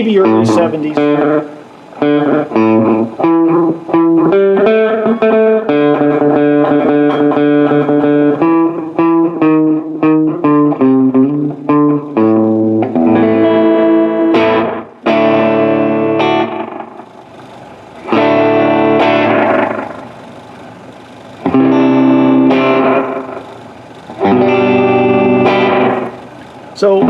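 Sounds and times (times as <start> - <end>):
electric guitar with tape echo: 0.0 - 27.0.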